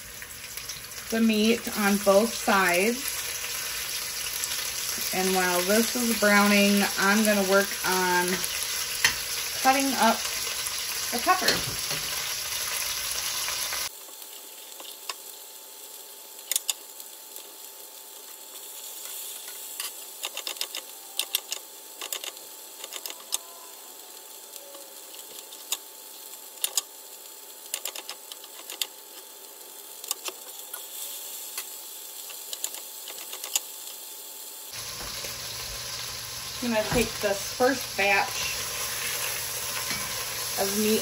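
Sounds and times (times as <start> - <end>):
steak sizzling in oil: 0.0 - 41.0.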